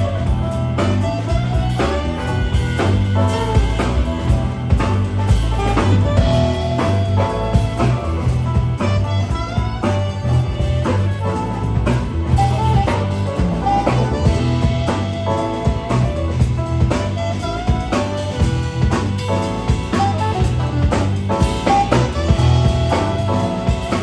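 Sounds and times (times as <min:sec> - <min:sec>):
drum kit: 0:00.0 - 0:24.0
electric bass: 0:00.0 - 0:24.0
keyboard: 0:00.0 - 0:24.0
saxophone melody: 0:00.0 - 0:24.0.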